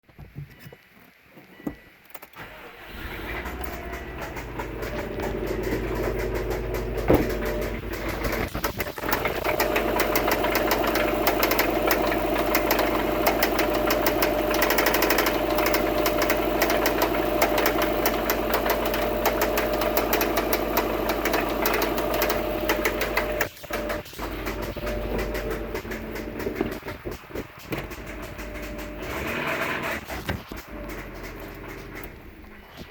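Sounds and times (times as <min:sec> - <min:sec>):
car engine starting and running: 0:02.3 - 0:32.9
rapid engine ticking: 0:03.2 - 0:32.9.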